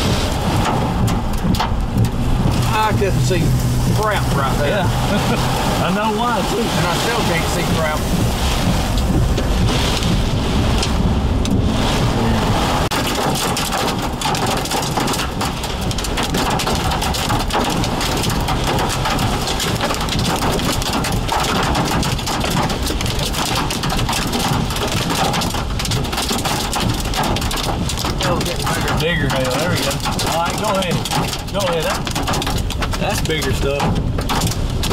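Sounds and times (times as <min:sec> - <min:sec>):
rain and hail on a vehicle roof: 0:00.0 - 0:34.9.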